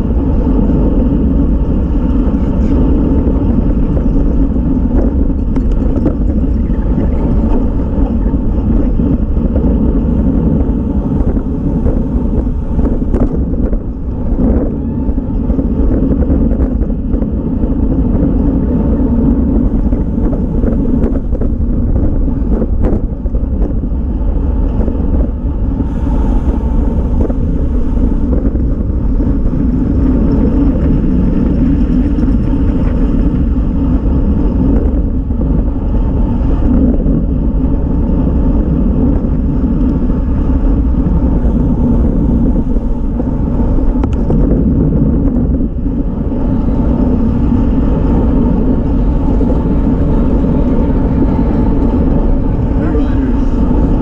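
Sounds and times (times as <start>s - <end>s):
road noise: 0.0s - 54.0s
wind rumble on microphone: 0.0s - 54.0s.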